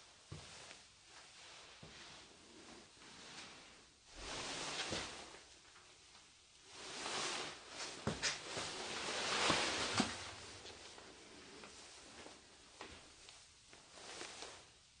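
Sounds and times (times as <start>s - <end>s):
rustling and scuffing of movement: 0.2s - 14.8s.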